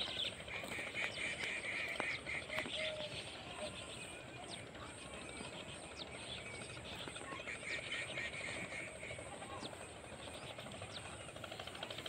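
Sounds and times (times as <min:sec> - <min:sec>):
outdoor field ambience: 0:00.0 - 0:12.0.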